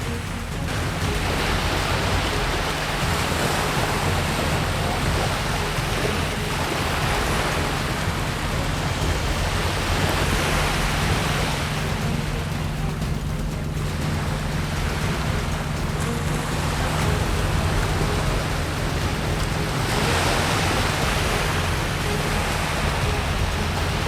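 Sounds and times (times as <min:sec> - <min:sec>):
boat engine drone: 0:00.0 - 0:24.0
rush of water spray: 0:00.0 - 0:24.0
wind: 0:00.0 - 0:24.0.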